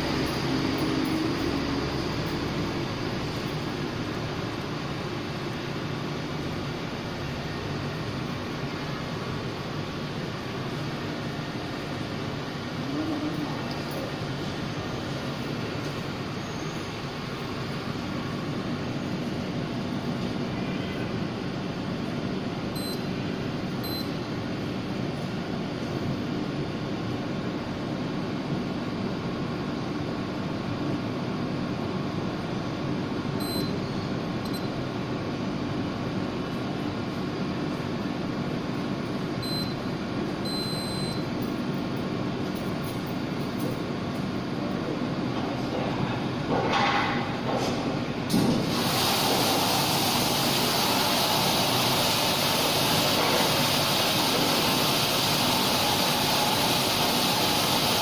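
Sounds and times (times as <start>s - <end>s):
grinding machine hum and hiss: 0.0s - 58.0s.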